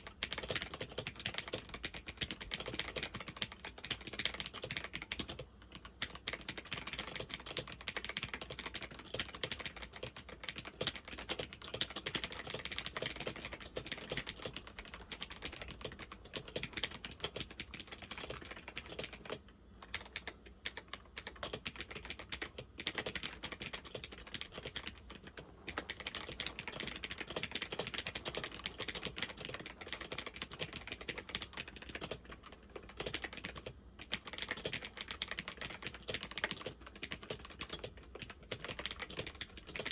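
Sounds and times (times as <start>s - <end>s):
fast laptop keyboard typing: 0.0s - 39.9s.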